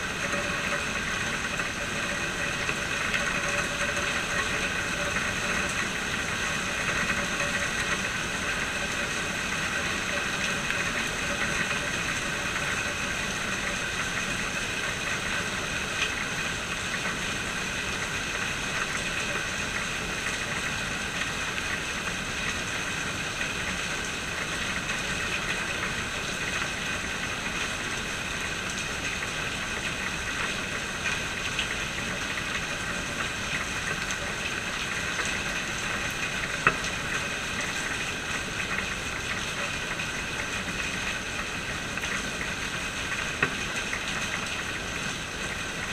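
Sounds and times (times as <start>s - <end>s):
rain falling: 0.0s - 45.9s.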